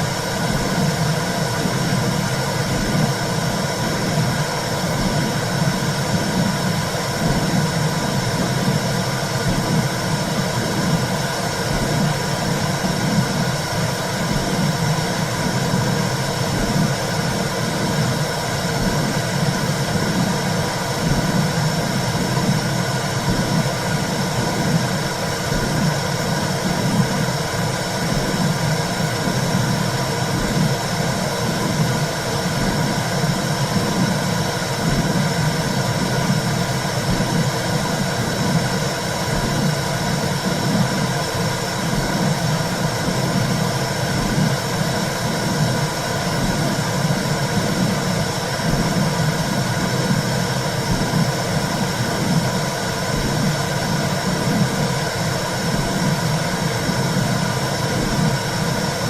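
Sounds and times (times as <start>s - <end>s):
low pulsing rumble: 0.0s - 59.0s.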